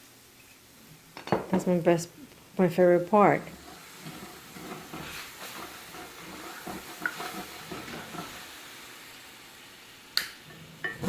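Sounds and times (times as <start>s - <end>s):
sizzling in a skillet: 0.0s - 11.0s.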